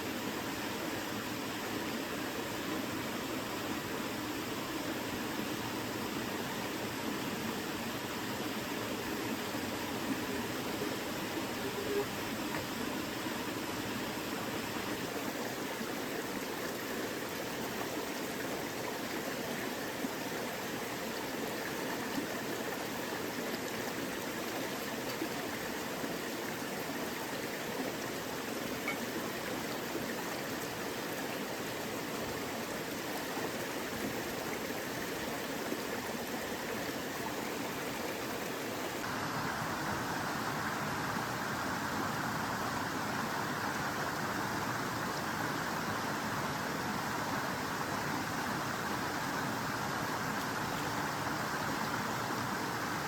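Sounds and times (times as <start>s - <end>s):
stream water rushing over rocks: 0.0s - 53.0s.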